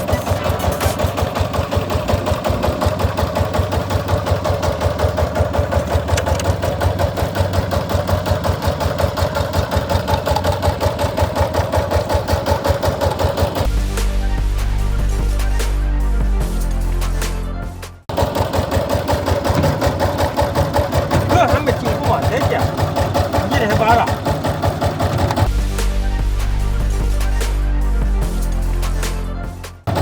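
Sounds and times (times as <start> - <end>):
diesel engine idling: 0.0 - 17.0, 18.1 - 29.0.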